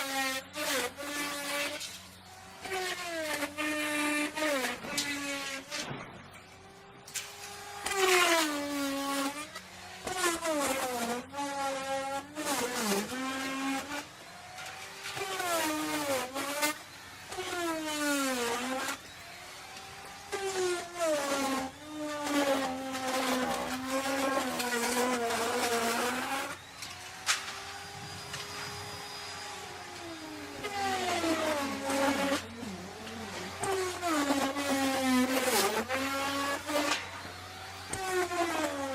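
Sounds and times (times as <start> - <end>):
wood router cutting wood: 0.0 - 38.9.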